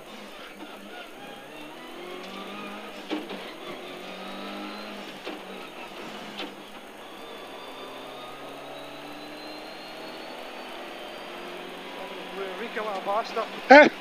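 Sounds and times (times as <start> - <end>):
humming noise: 0.0 - 13.8
turbocharged engine whine: 0.0 - 14.0.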